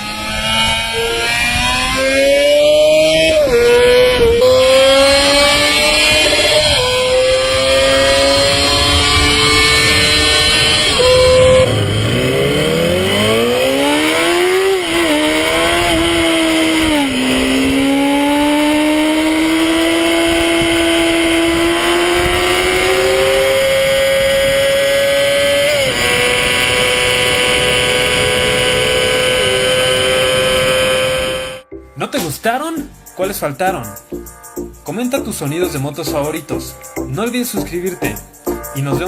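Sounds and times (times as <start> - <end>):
motorcycle engine revving hard: 0.0 - 31.6.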